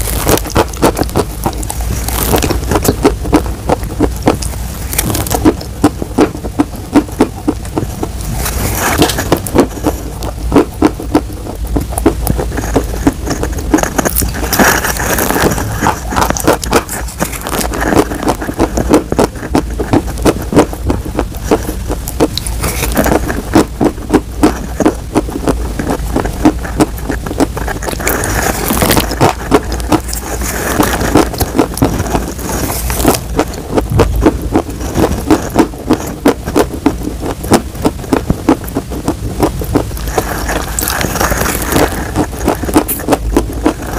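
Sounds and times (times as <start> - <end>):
chalk crunching: 0.0 - 43.9.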